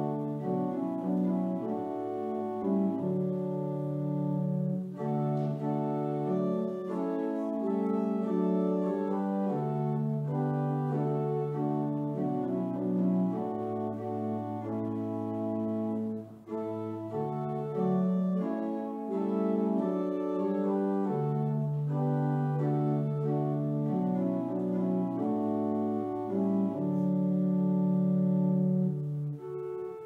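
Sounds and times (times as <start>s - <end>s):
church organ chords: 0.0s - 30.0s.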